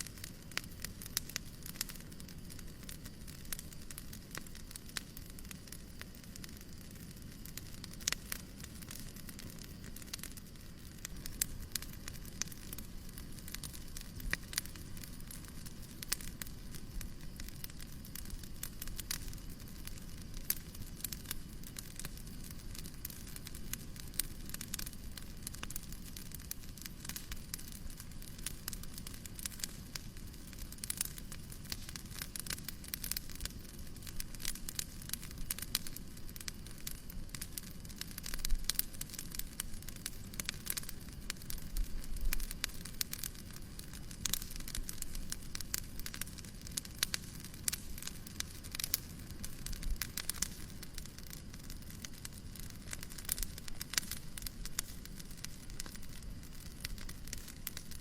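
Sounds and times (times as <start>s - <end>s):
low rumble of fire: 0.0s - 58.0s
wood fire crackling: 0.0s - 58.0s.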